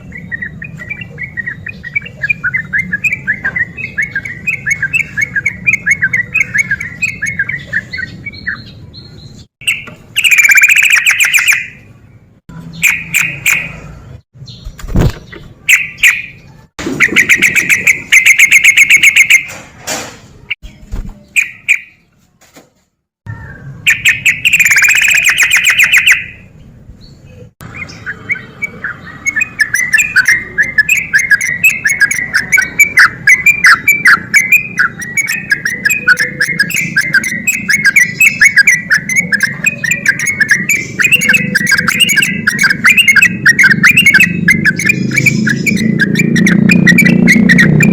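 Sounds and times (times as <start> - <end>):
bird chattering trills: 0.0 - 9.0, 9.6 - 11.8, 12.7 - 13.9, 14.6 - 19.5, 23.3 - 26.5, 27.4 - 47.9.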